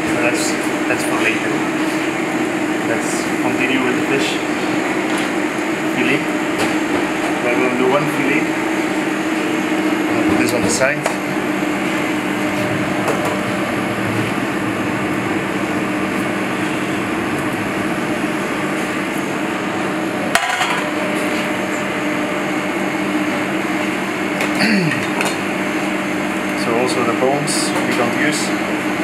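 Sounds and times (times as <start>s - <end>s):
kitchen ventilation hum: 0.0s - 29.0s.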